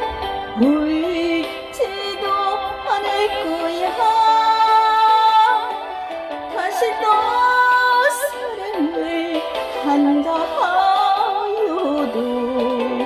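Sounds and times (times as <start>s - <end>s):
backing track: 0.0s - 13.0s.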